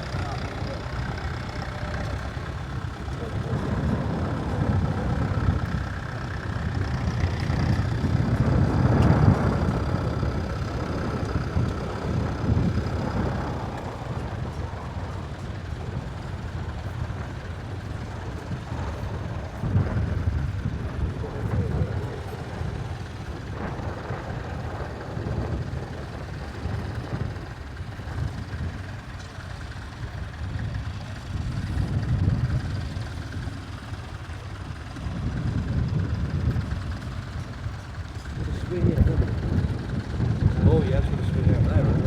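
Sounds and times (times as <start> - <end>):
tractor engine rumbling: 0.0 - 42.0.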